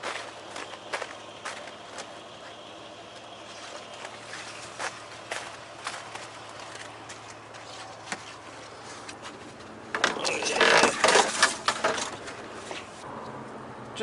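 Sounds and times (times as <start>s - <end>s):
junk clattering and rattling: 0.0s - 13.0s.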